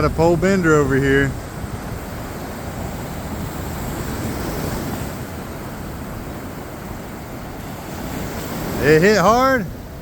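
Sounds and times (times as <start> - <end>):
surf washing onto beach: 0.0 - 10.0
wind buffeting microphone: 0.0 - 10.0.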